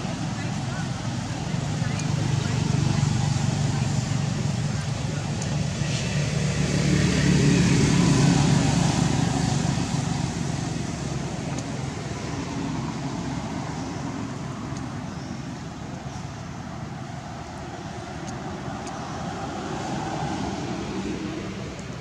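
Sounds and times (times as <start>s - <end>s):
vehicle engine passing: 0.0s - 22.0s.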